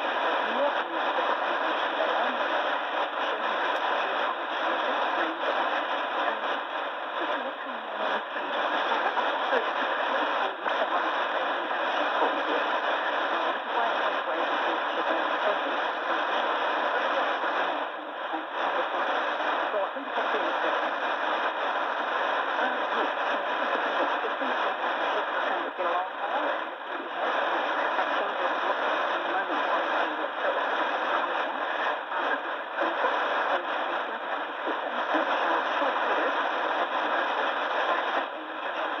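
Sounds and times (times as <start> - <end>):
faint voice on radio: 0.0 - 39.0
radio static hiss: 0.0 - 39.0.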